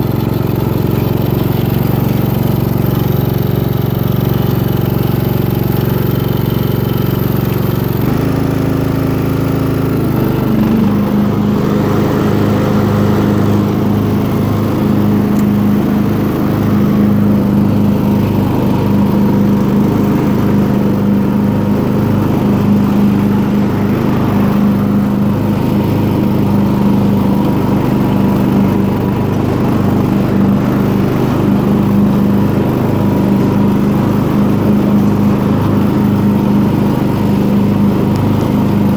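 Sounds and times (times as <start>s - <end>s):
riding mower engine running: 0.0s - 38.9s.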